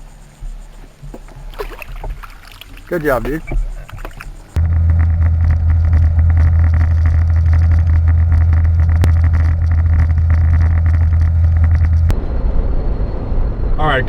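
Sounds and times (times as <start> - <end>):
outboard motor droning: 0.0 - 12.1.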